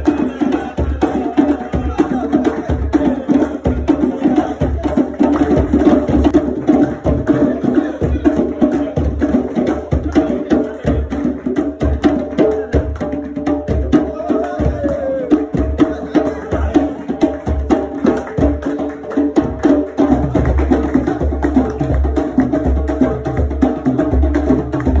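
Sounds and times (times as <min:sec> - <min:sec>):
hand drums playing fast rhythm: 0:00.0 - 0:25.0.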